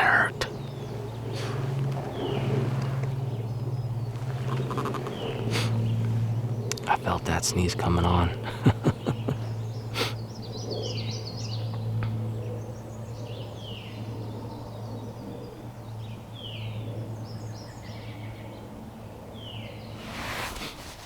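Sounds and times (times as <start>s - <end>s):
steady low hum: 0.0s - 17.6s
songbirds singing: 0.0s - 20.7s.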